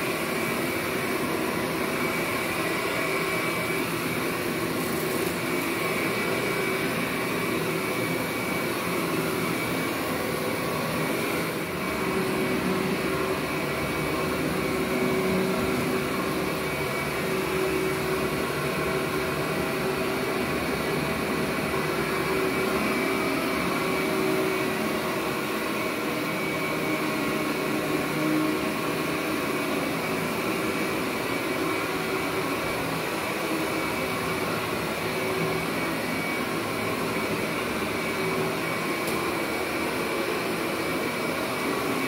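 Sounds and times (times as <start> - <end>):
vacuum cleaner running on carpet: 0.0 - 42.0.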